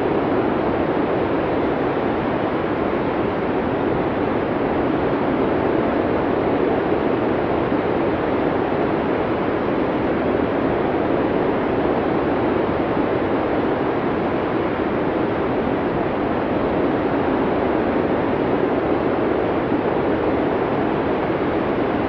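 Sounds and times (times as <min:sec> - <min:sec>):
steady rushing wind: 0:00.0 - 0:22.0.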